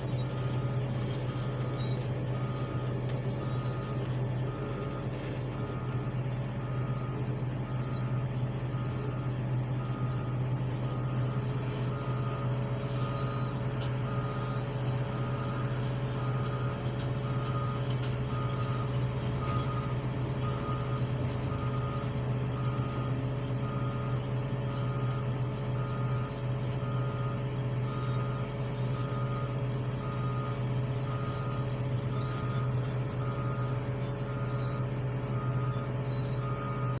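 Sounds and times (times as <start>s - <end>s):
heavy diesel engines rumbling: 0.0s - 37.0s
reversing alarm beeping: 0.1s - 37.0s.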